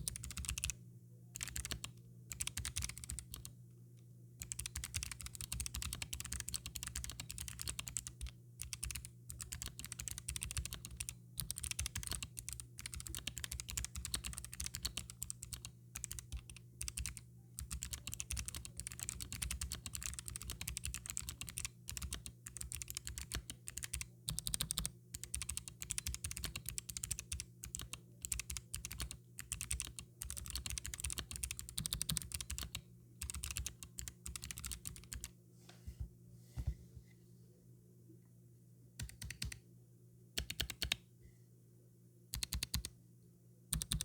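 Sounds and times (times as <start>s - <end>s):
mechanical keyboard typing clicks: 0.0s - 0.8s, 1.4s - 3.5s, 4.4s - 35.3s, 39.0s - 39.6s, 40.4s - 41.0s, 42.4s - 42.9s, 43.8s - 44.0s.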